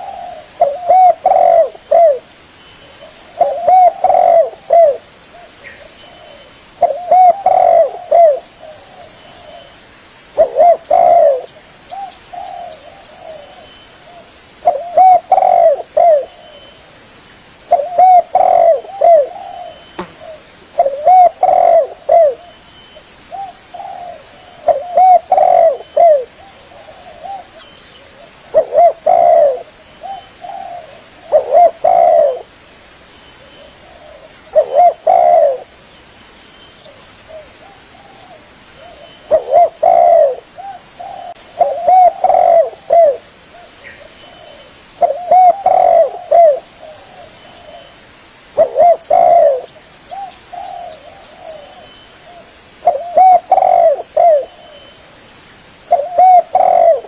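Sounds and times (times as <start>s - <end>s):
dove cooing: 0.0s - 9.8s, 10.4s - 16.8s, 17.7s - 22.6s, 23.3s - 32.5s, 33.4s - 35.8s, 36.8s - 48.0s, 48.6s - 55.0s, 55.9s - 57.0s.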